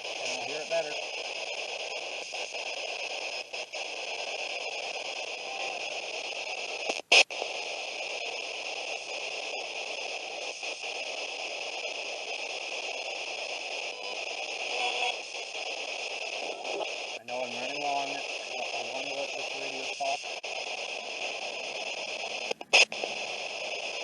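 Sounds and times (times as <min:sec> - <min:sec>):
loud sharp crackle: 0:00.0 - 0:24.0
radio static hiss: 0:00.0 - 0:24.0.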